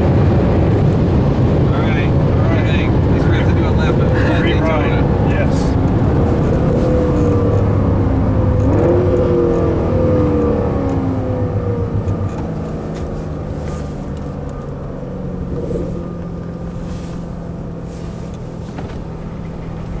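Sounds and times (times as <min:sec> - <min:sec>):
car engine from inside cabin: 0:00.0 - 0:20.0.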